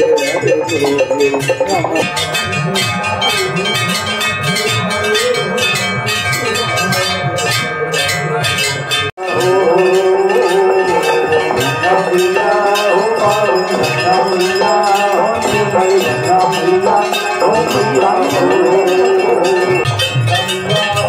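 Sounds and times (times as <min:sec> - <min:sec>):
chanted singing: 0:00.0 - 0:08.6, 0:09.2 - 0:21.0
bells ringing rapidly: 0:00.0 - 0:21.0.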